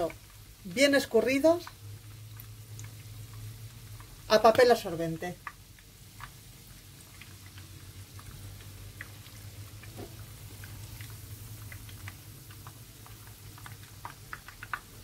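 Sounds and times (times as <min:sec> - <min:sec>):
oil sizzling: 0:00.0 - 0:15.0
small crackles and pops: 0:00.0 - 0:15.0.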